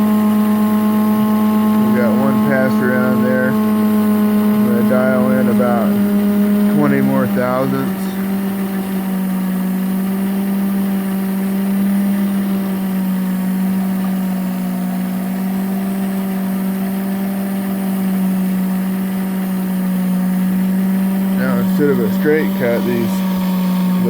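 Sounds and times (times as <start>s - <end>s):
cutter cutting wood: 0.0s - 24.0s
electric motor humming: 0.0s - 24.0s.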